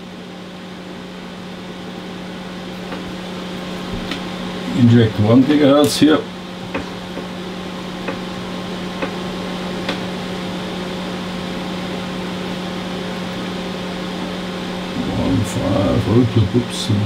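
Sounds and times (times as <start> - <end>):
equipment hum and fan noise: 0.0 - 17.0.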